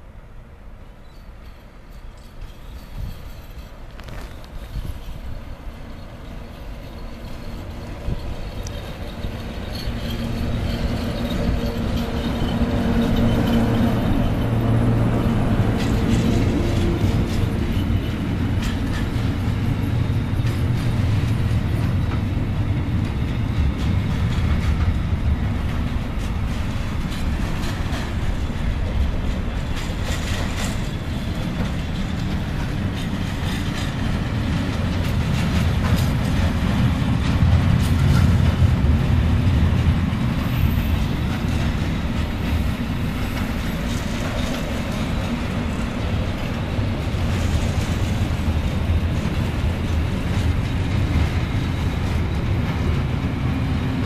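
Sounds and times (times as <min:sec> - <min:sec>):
freight train rumbling past: 0:00.0 - 0:54.0
train wheel clicks and clatter: 0:01.9 - 0:54.0.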